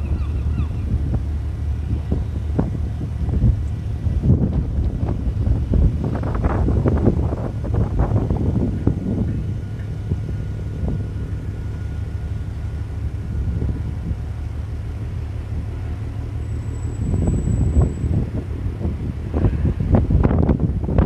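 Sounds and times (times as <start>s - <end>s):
steady low rumble: 0.0s - 21.0s
wind buffeting microphone: 0.0s - 21.0s.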